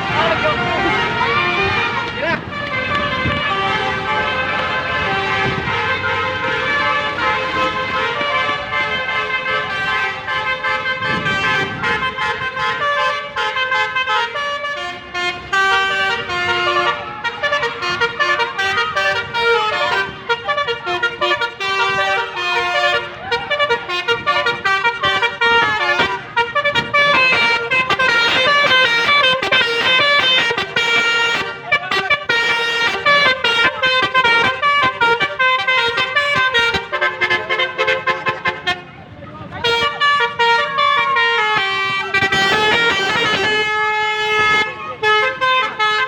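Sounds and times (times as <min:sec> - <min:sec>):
musical car horn playing tune: 0:00.0 - 0:46.0.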